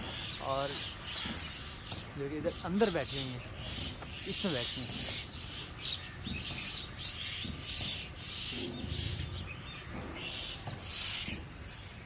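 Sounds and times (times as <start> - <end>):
birds chattering: 0.0 - 12.0.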